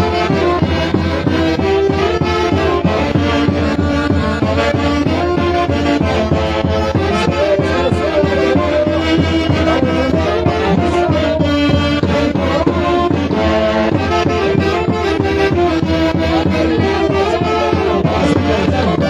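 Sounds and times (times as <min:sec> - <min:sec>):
festival band music: 0:00.0 - 0:19.0.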